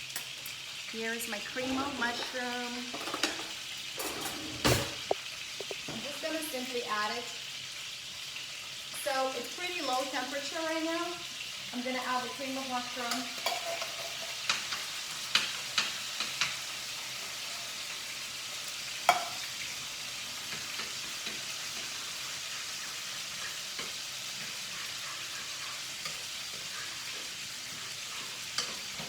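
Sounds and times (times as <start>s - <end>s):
food sizzling in a frying pan: 0.0s - 29.0s.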